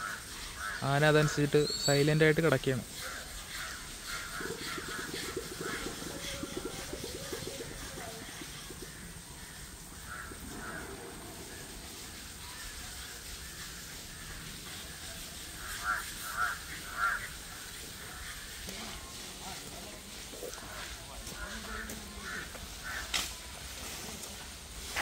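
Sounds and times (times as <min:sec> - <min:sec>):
bird calling: 0:00.0 - 0:23.3.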